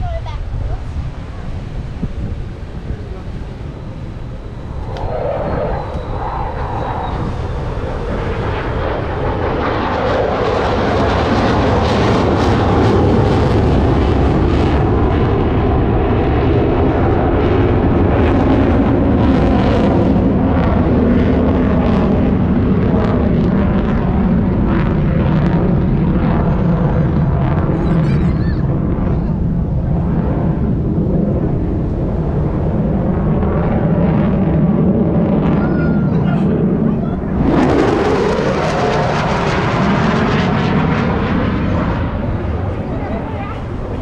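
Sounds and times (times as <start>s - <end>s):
jet engine roaring: 0.0s - 44.0s.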